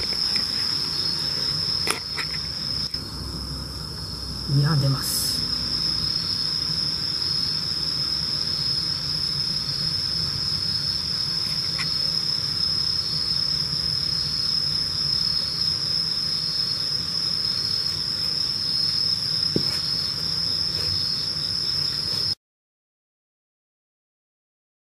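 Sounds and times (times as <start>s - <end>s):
faint low hum: 0.0s - 22.3s
crickets trilling: 0.0s - 22.4s.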